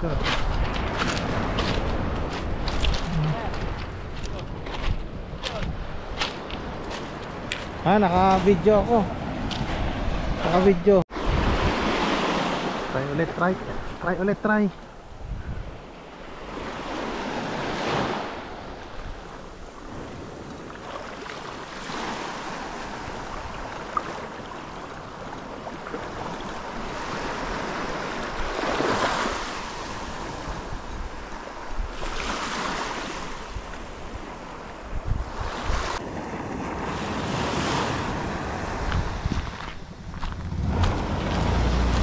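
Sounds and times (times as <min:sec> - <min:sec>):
wind buffeting microphone: 0:00.0 - 0:20.9, 0:26.0 - 0:32.3, 0:33.1 - 0:42.0.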